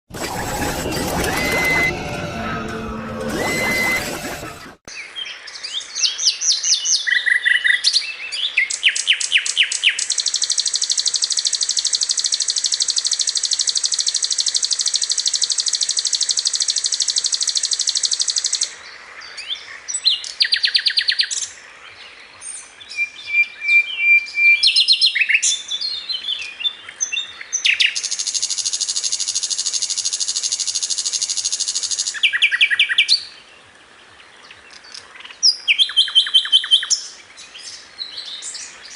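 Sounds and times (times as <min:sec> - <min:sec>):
songbird chirping and trilling: 0:04.9 - 0:38.9.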